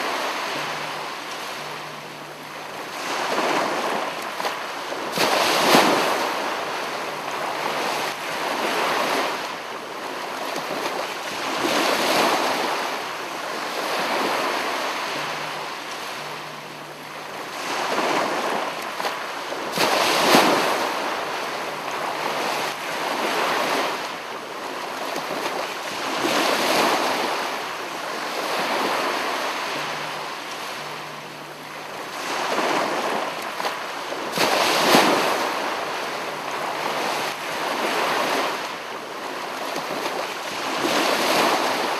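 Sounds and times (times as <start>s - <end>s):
sea waves breaking on shore: 0.0s - 41.9s.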